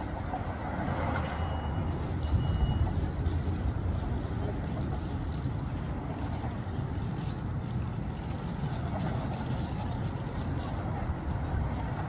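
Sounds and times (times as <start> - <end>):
trams and street traffic rumble: 0.0 - 12.0.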